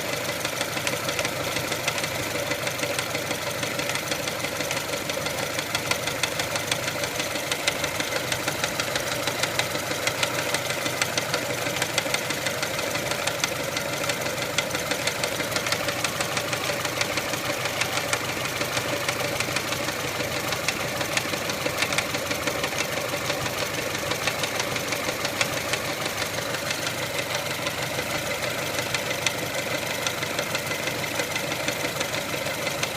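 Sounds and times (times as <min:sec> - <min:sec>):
car engine running: 0:00.0 - 0:32.9
engine knocking: 0:00.0 - 0:32.9.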